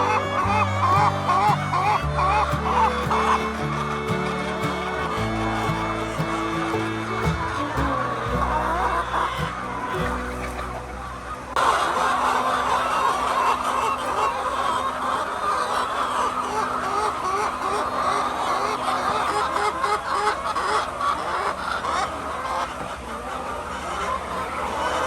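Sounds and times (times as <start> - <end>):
flock of hens clucking: 0.0 - 25.0.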